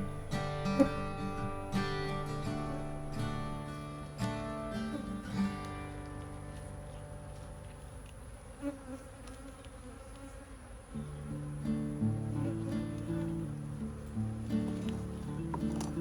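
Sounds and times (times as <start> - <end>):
acoustic guitar music: 0.0 - 8.1, 10.9 - 16.0
honeybees buzzing: 0.0 - 16.0.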